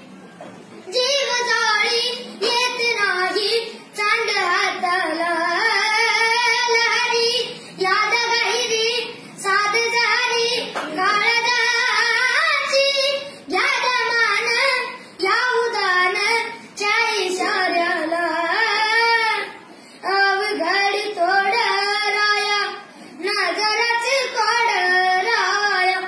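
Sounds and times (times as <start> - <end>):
boy singing: 0.9 - 26.0.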